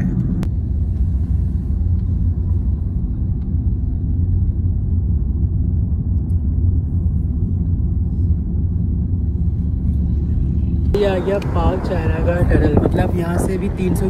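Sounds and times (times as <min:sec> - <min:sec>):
car driving low rumble: 0:00.0 - 0:14.0.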